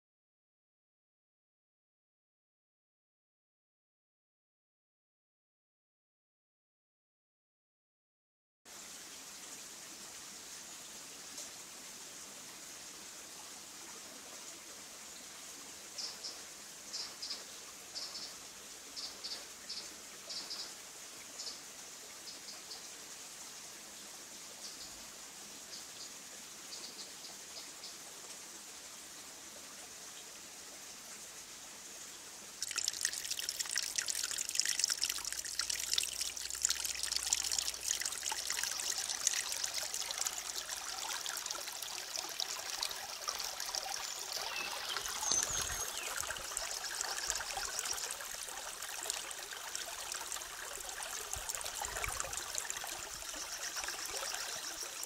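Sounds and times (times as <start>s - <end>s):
stream trickling over rocks: 8.7s - 55.0s.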